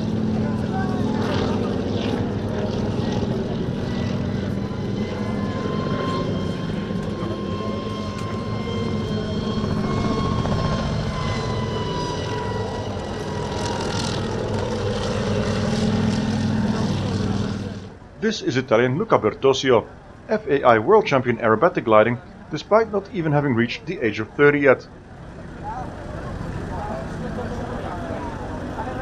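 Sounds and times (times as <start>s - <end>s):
helicopter engine and rotors whining: 0.0s - 29.0s.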